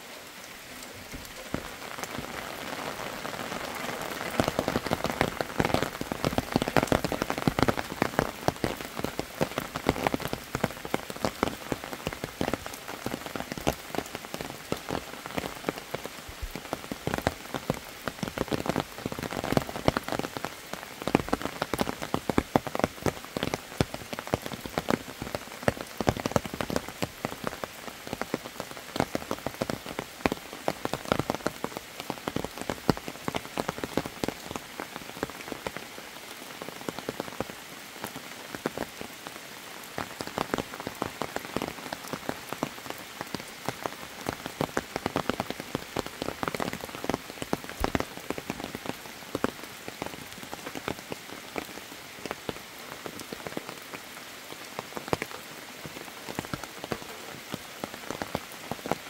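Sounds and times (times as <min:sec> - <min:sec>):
steady rain patter: 0:00.0 - 0:59.0.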